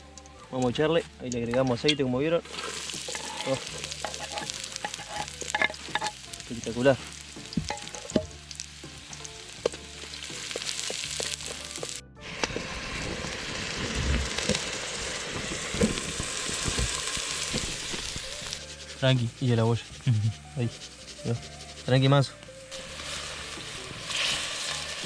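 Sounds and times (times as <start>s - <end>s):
onion frying in hot oil: 2.4s - 22.0s, 22.6s - 25.0s.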